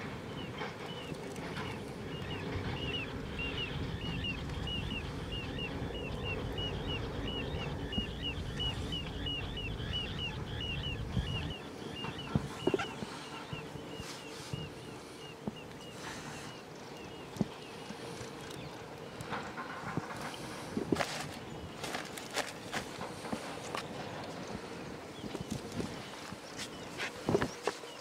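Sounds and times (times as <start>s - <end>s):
steady low rumble: 0.0s - 27.6s.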